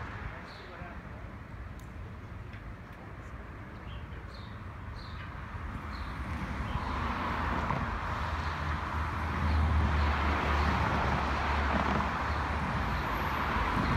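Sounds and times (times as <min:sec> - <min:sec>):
open-air background hush: 0:00.0 - 0:13.9.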